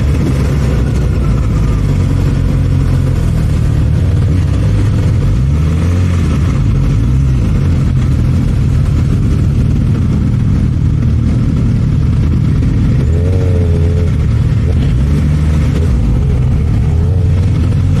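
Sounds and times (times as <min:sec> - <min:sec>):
motorcycle engine running at low speed: 0:00.0 - 0:18.0.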